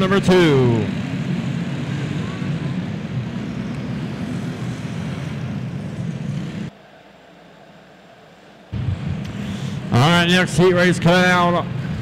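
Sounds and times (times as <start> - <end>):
kart engines droning: 0.0 - 12.0.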